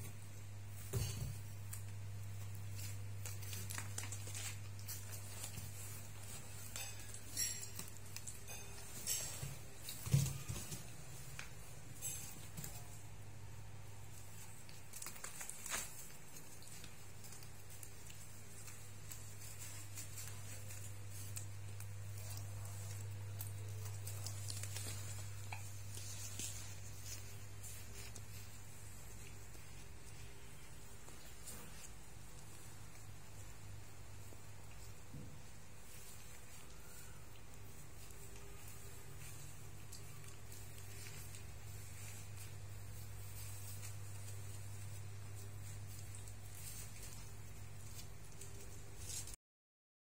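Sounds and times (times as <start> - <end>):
faint clicks and rustles: 0.0 - 49.4.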